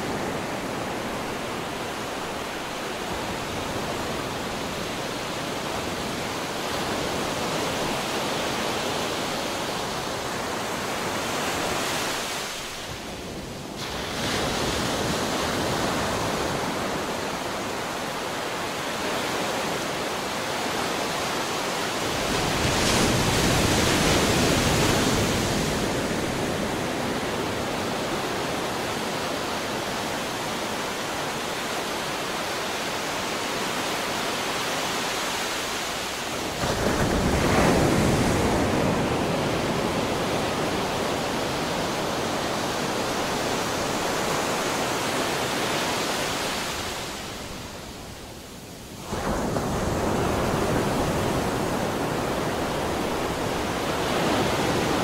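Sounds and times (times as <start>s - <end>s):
ocean waves rushing: 0.0s - 55.0s.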